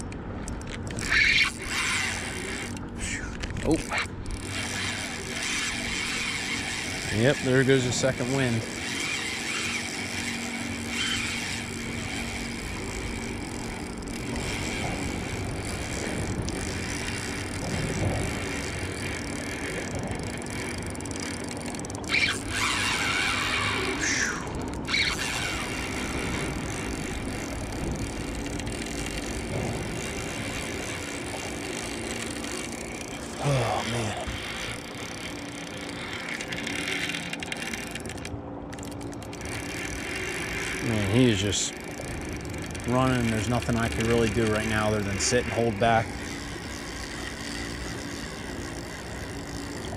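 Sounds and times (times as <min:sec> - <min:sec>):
fishing reel drag buzzing: 0:00.0 - 0:49.9.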